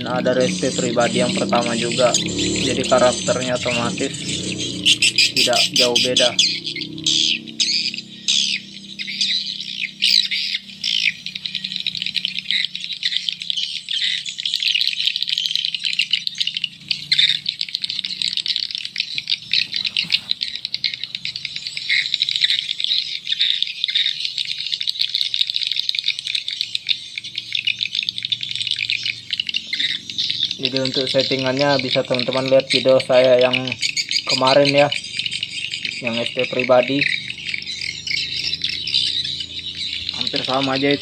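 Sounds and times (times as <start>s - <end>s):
recorded bird twittering: 0.0s - 41.0s.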